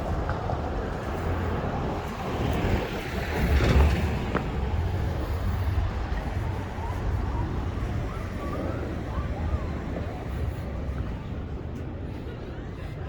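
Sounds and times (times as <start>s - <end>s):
car passing by: 0.0s - 11.2s
low rumble of traffic: 0.0s - 13.0s.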